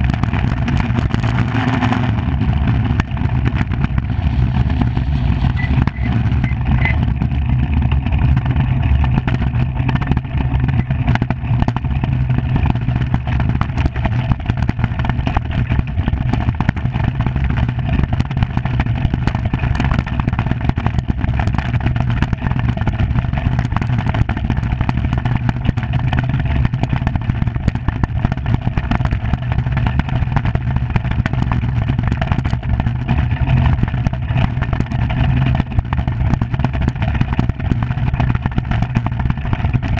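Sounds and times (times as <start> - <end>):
light clatter: 0.0 - 39.9
runners rumbling on ice: 0.0 - 39.9.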